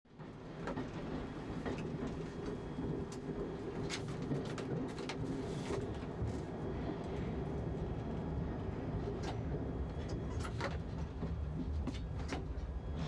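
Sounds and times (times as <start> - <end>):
train rumble: 0.1 - 13.0.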